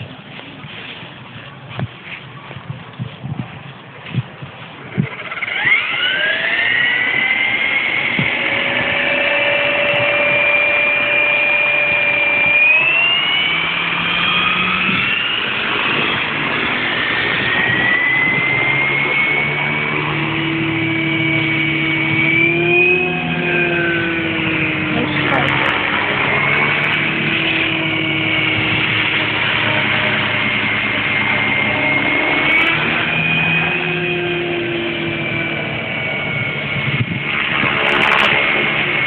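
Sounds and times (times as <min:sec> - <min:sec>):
model helicopter whine: 0:03.8 - 0:39.0.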